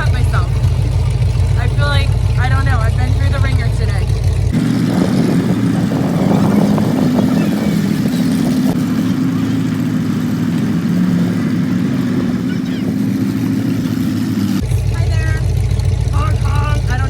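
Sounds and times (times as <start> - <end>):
car engine rough fast idle: 0.0 - 17.0.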